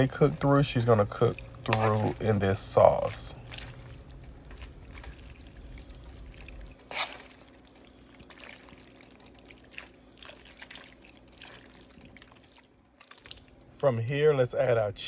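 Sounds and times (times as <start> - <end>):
wet squelching noodles in sauce: 0.0 - 13.8.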